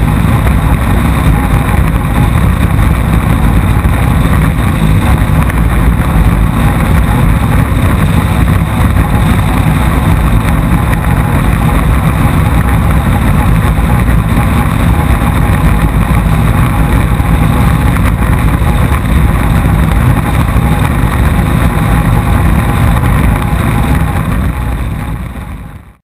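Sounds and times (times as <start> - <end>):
powerboat engine droning: 0.0 - 26.0.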